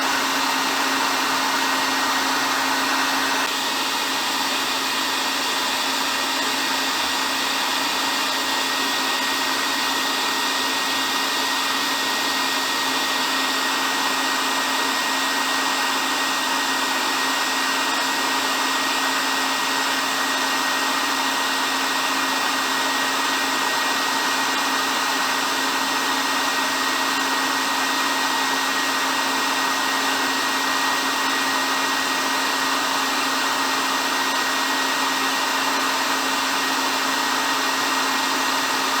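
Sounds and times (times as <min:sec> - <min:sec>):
hair dryer running: 0:00.0 - 0:39.0.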